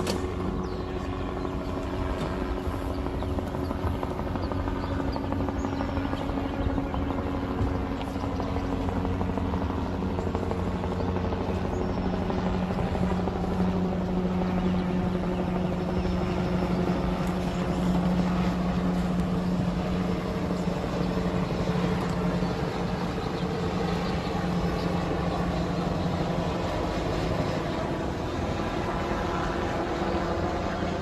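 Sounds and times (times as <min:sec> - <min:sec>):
engine drone: 0:00.0 - 0:31.0.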